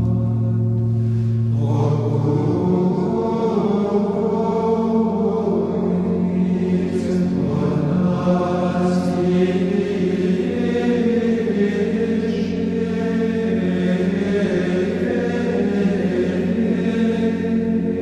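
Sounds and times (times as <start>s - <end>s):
slow chanted singing: 0.0s - 18.0s
steady drone: 0.0s - 18.0s.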